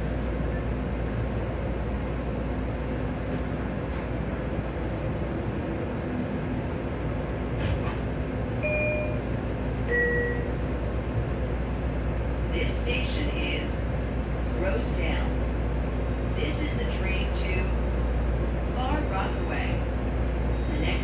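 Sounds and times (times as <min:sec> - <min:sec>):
train wheels and motors rumbling: 0:00.0 - 0:21.0.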